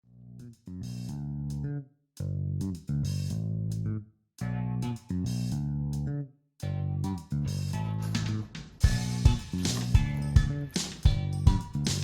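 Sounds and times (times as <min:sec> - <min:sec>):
bass and guitar music: 0:00.4 - 0:12.0.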